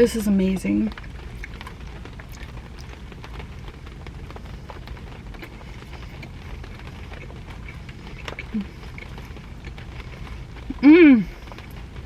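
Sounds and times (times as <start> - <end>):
rain on car roof: 0.0 - 12.0.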